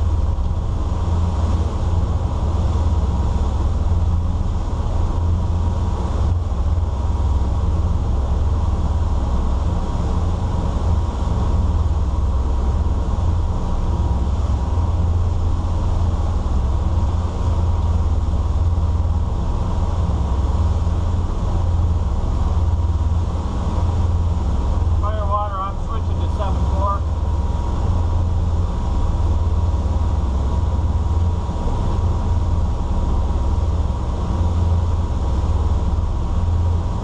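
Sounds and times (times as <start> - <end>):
boat engines droning: 0.0 - 37.0.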